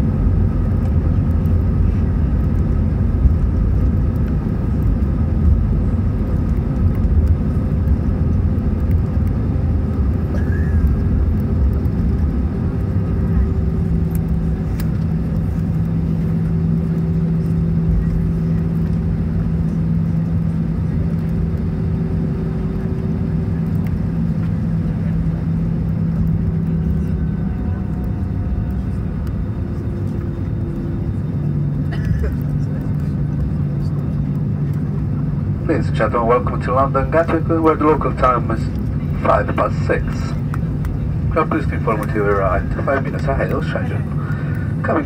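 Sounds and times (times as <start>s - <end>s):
steady cabin hum: 0.0s - 45.0s
wheels and engines rumbling: 0.0s - 45.0s.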